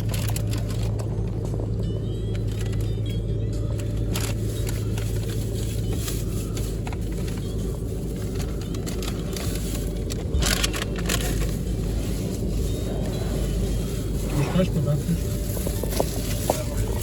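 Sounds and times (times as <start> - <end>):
car wash hum and rumble: 0.0 - 17.0.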